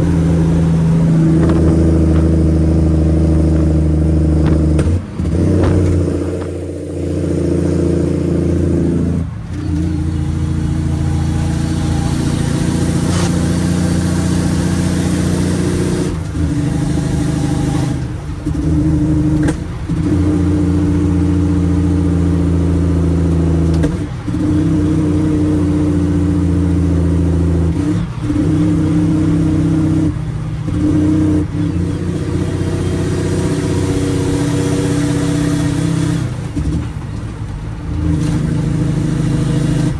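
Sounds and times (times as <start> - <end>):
diesel truck exhaust drone: 0.0 - 39.9.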